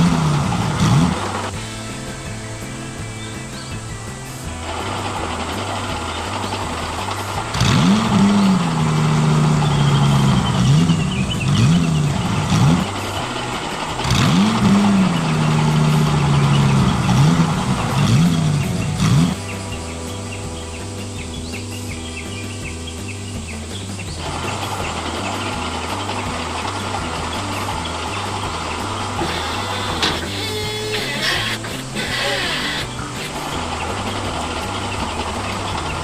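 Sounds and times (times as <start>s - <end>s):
background music with bassline: 0.0s - 36.0s
engine revving: 0.0s - 36.0s.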